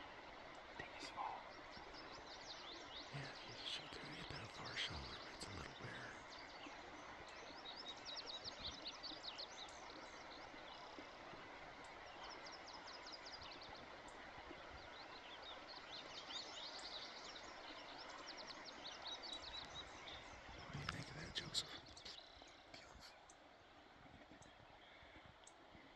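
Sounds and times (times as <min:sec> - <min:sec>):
faint outdoor hiss: 0:00.0 - 0:25.9
songbirds chirping: 0:00.0 - 0:25.9.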